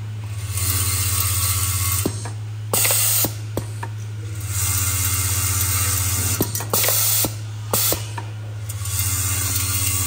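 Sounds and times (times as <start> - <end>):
vibratory feeder humming: 0.0 - 10.0.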